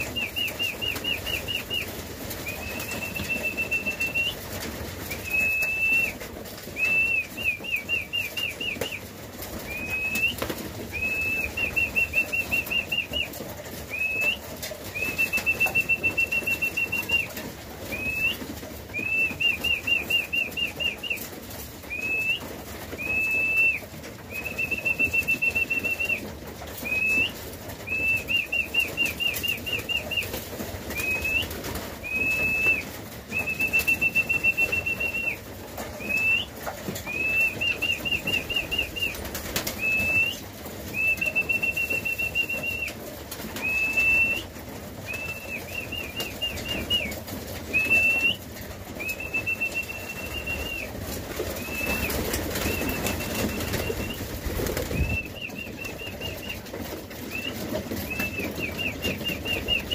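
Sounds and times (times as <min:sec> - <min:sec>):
pigeons flapping wings: 0:00.0 - 0:59.9
pigeons shuffling: 0:00.0 - 0:59.9.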